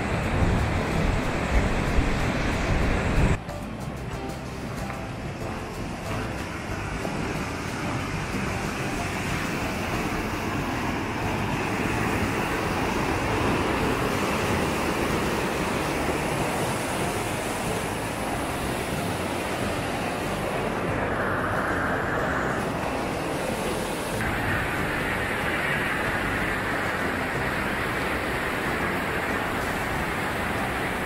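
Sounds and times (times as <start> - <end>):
loud rushing noise: 0.0 - 31.0.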